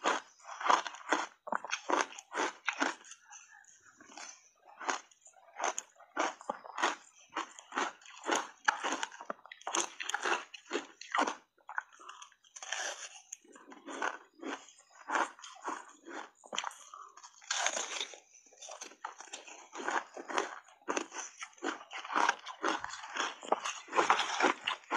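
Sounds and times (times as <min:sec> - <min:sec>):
person crunching shaved ice: 0:00.0 - 0:03.1, 0:05.6 - 0:24.9.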